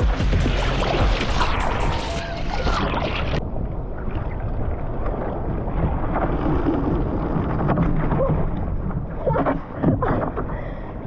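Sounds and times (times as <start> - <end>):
water splashing along hull: 0.0 - 11.0.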